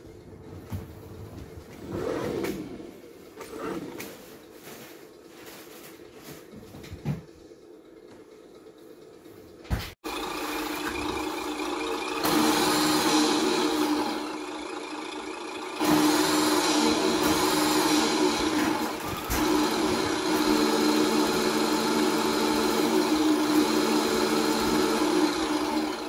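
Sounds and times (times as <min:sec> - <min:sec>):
simulated diesel truck engine: 0:00.0 - 0:26.0.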